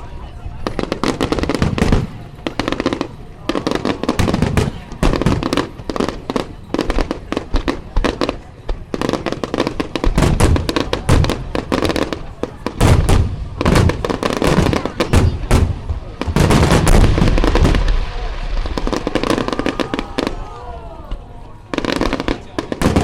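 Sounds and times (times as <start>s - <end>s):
fireworks cracking and banging: 0.0s - 23.0s
low firework booms: 0.6s - 20.4s, 21.7s - 23.0s.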